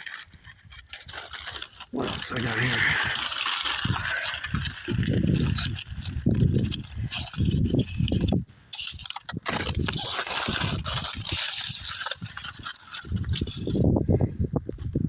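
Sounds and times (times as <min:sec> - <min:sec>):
rustling handling noise: 0:00.0 - 0:15.0.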